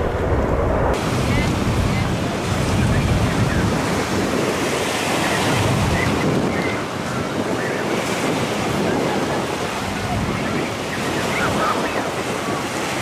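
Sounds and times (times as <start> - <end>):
choppy sea waves: 0.0 - 13.0
wind buffeting microphone: 0.0 - 13.0.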